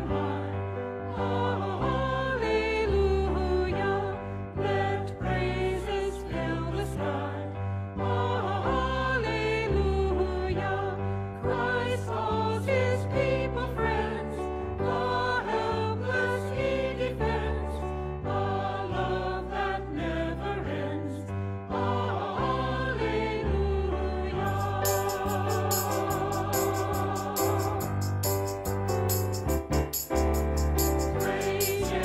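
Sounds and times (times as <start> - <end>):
choir singing: 0.0 - 29.3, 30.0 - 32.0.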